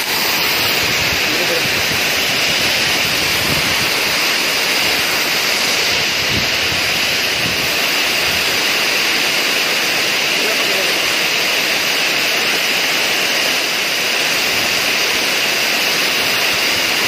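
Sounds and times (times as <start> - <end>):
heavy rain on a river: 0.0 - 17.0
water pouring down a spillway: 0.0 - 17.0.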